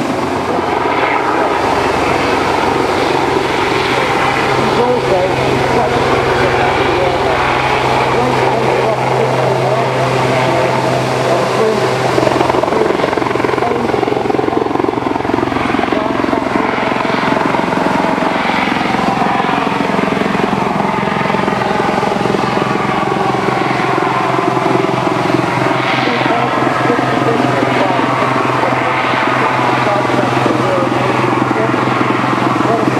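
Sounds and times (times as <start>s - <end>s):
helicopter engine drone: 0.0s - 32.9s
helicopter rotor beating: 0.0s - 32.9s.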